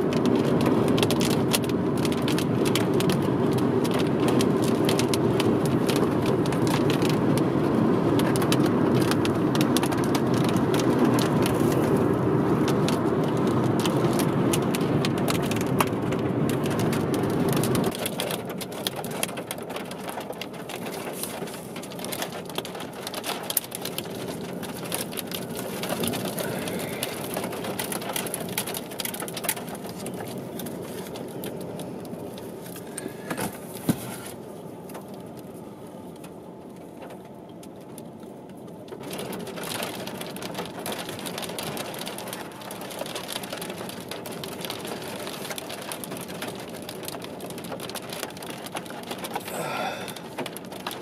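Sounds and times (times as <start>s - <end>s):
rain pattering: 0.0s - 51.0s.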